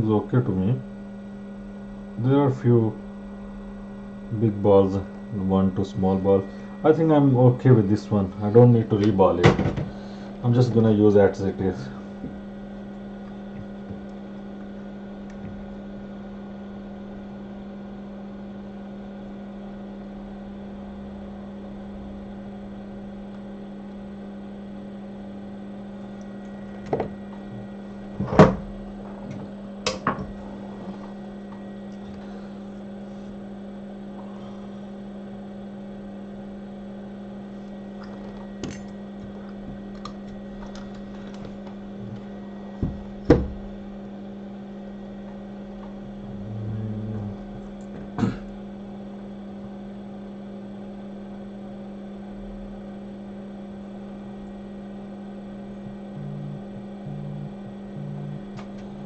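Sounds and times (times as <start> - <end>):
electrical equipment hum: 0.0 - 59.0.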